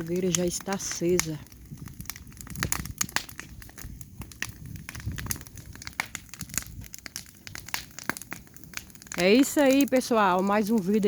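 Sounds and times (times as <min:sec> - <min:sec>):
bonfire crackling and popping: 0:00.0 - 0:11.0
low fire rumble: 0:00.0 - 0:11.0.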